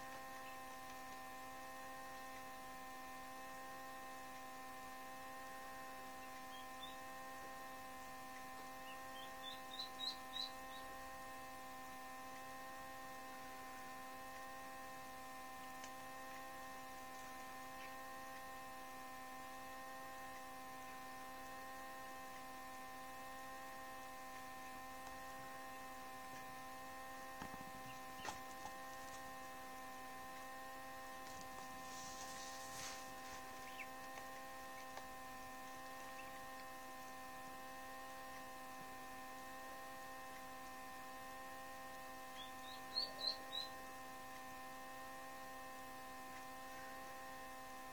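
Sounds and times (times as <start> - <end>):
incubator electrical hum: 0.0 - 47.9.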